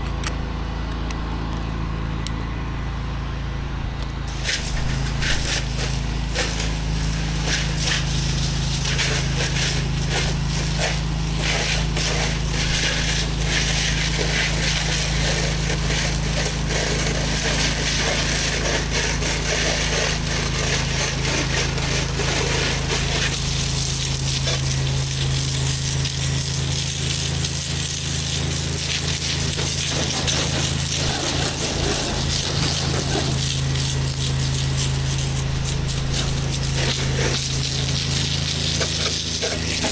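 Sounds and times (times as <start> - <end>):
pressure washer engine running: 0.0 - 39.9
high-pressure water spraying: 4.3 - 39.9.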